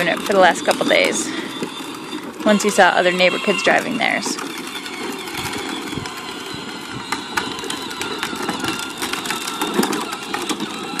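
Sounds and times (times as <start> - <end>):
plastic wheels clicking: 0.0 - 11.0
toy ride-on car rolling hiss: 0.0 - 11.0.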